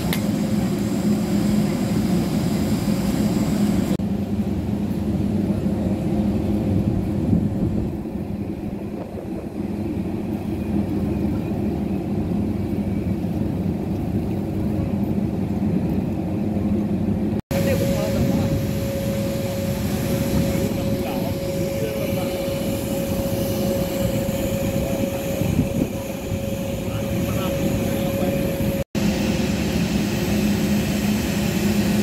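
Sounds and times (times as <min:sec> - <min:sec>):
low engine drone: 0:00.0 - 0:32.0.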